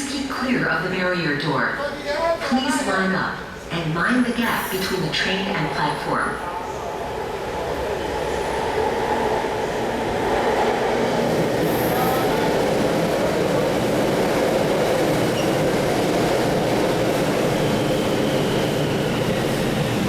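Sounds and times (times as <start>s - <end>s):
metro train wheels rumbling: 3.2s - 20.0s.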